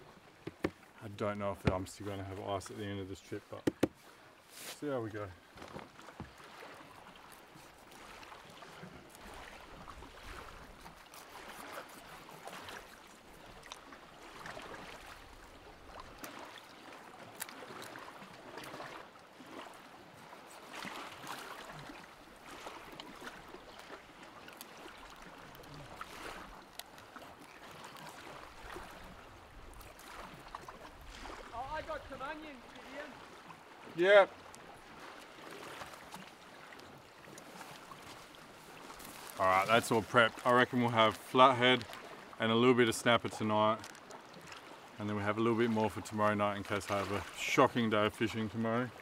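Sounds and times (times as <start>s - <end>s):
small waves lapping on rocks: 0.0s - 49.0s.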